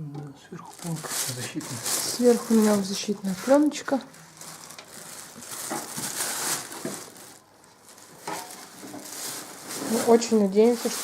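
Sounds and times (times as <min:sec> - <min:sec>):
plastic film rustling and crinkling: 0:00.6 - 0:11.0.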